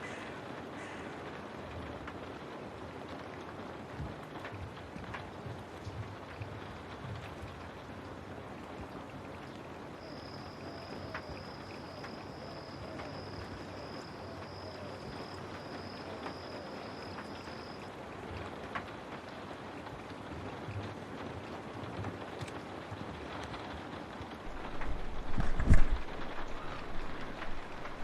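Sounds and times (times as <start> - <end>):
rain hiss: 0.0 - 28.0
raindrops tapping: 0.1 - 28.0.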